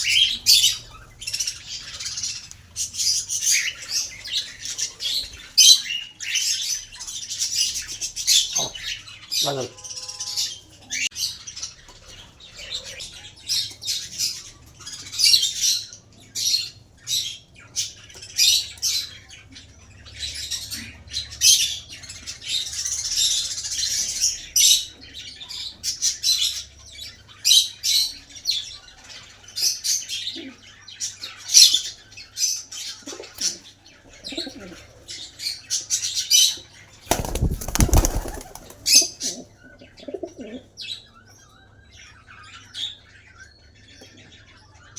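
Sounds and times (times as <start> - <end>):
parrots chirping: 0.0 - 43.7.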